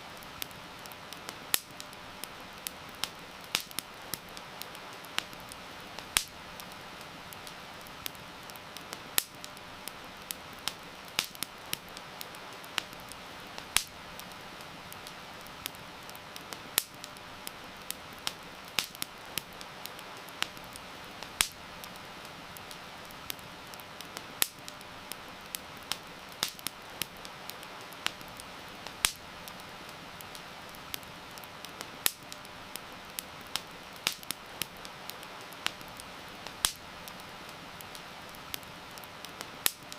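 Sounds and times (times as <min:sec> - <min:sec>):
campfire crackling and popping: 0:00.0 - 0:39.9
heavy rain hiss: 0:00.0 - 0:39.9.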